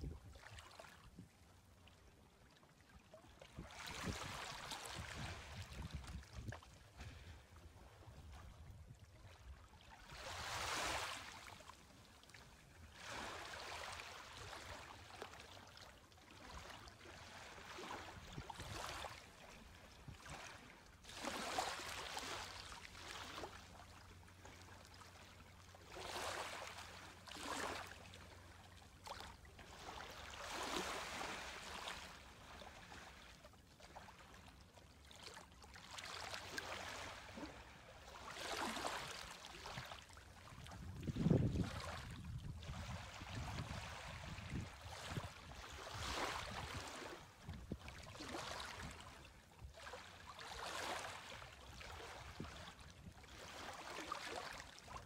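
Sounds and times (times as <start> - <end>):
small waves lapping on sand: 0.0 - 1.2, 2.5 - 55.0.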